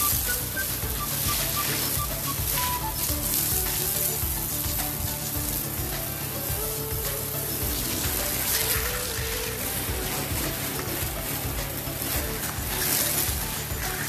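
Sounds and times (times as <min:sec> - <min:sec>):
faint background music: 0:00.0 - 0:14.0
water spraying onto wet tiles: 0:00.0 - 0:14.0.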